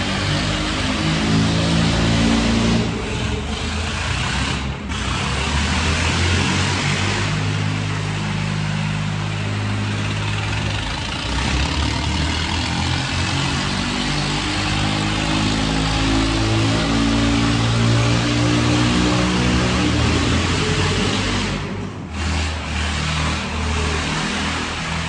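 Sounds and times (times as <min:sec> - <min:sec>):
tractor diesel engines straining: 0:00.0 - 0:25.0.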